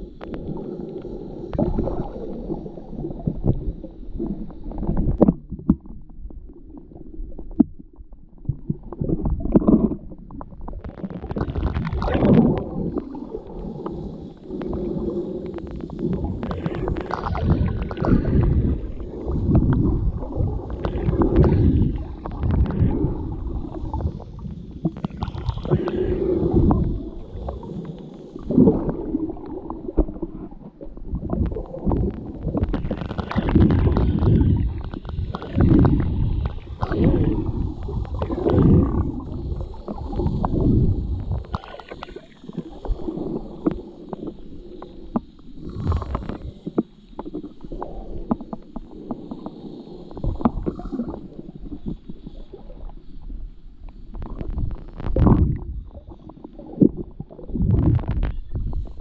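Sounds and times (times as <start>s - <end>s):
underwater water gurgling: 0.0s - 59.0s.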